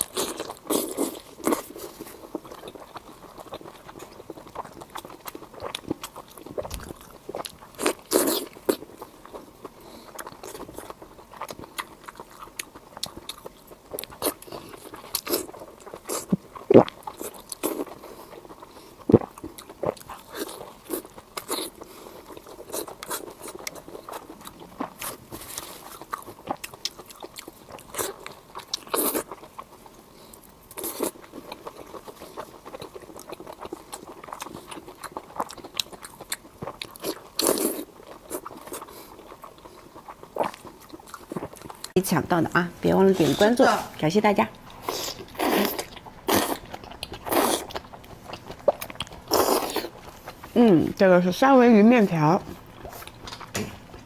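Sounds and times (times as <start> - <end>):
person chewing crunchy food: 0.0 - 42.0, 43.0 - 51.0, 52.0 - 54.0.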